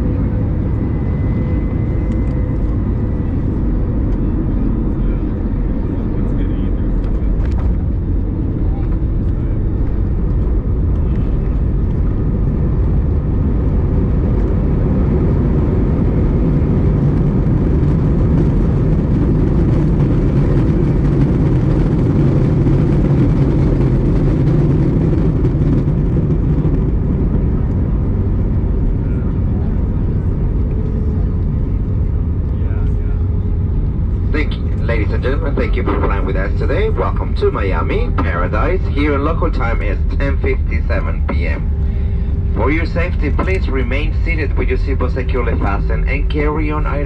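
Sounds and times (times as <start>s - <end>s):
airplane cabin engine rumble: 0.0s - 47.0s.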